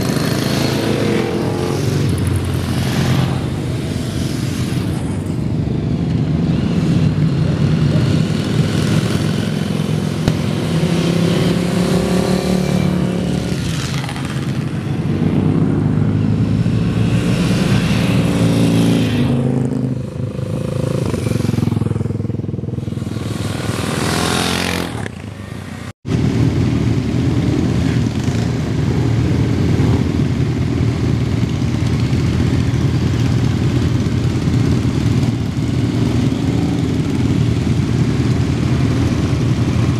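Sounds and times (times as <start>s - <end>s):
motorcycles riding past: 0.0s - 39.9s
motorcycles rumbling at low revs: 0.0s - 39.9s.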